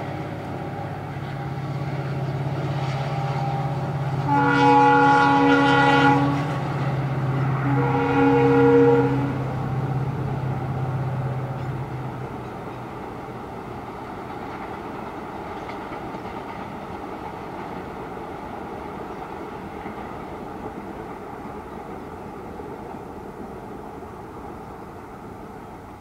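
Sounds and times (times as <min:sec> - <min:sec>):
distant train rumbling on bridge: 0:00.0 - 0:26.0.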